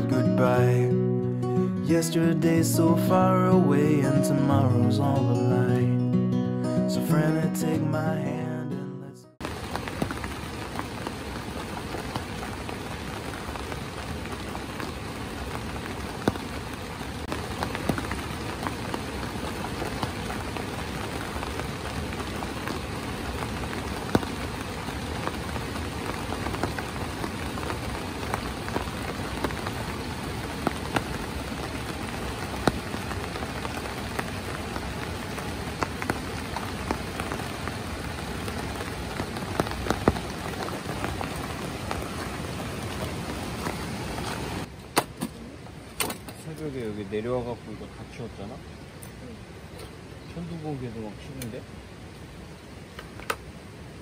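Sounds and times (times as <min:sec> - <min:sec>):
rain on an awning: 0:00.0 - 0:05.8, 0:09.4 - 0:54.0.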